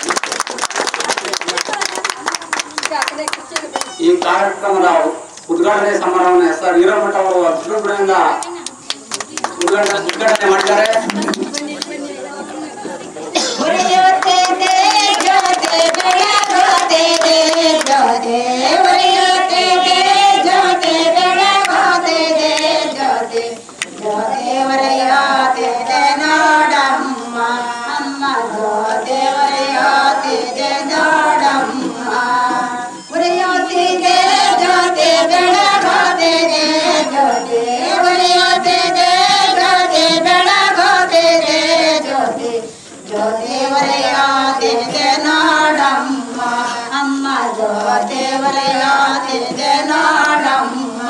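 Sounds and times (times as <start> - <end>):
high voices singing prayer song: 2.0 - 51.0.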